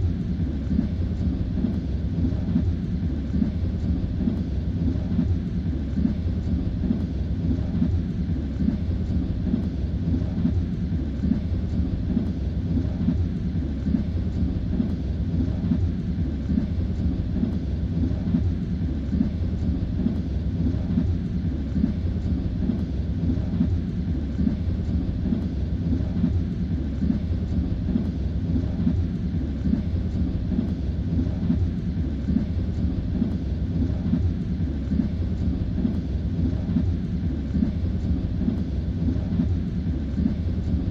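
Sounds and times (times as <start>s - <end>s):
train rumble inside carriage: 0.0s - 40.9s.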